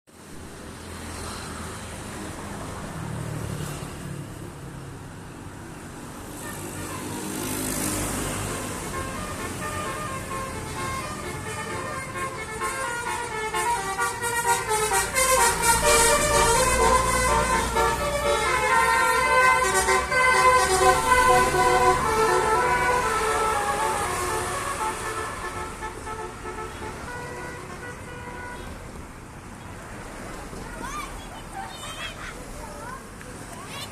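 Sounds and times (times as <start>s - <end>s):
road and tyre noise: 0.1s - 33.9s
bus engine humming: 4.4s - 33.9s.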